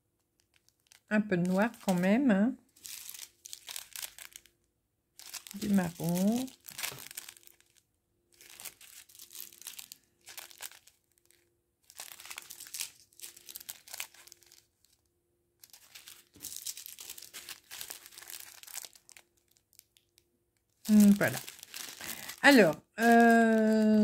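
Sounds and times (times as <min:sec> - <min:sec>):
plastic bags crinkling: 0:00.4 - 0:04.6, 0:05.2 - 0:20.2, 0:20.8 - 0:24.0.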